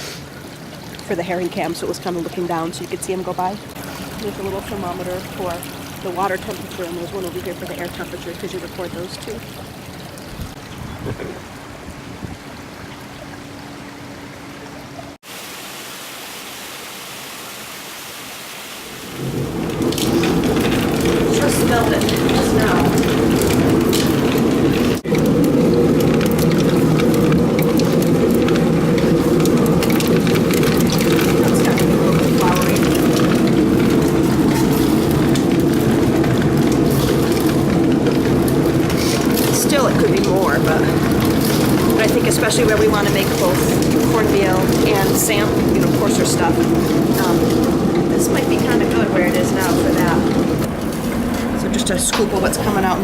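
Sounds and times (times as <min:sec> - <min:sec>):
water rushing: 0:00.0 - 0:53.0
mill machinery rumbling and rattling: 0:01.0 - 0:09.5, 0:19.1 - 0:53.0.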